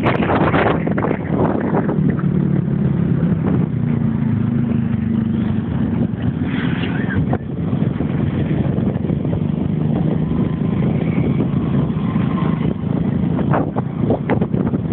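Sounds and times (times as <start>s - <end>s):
vehicle engine and road noise: 0.0s - 14.9s.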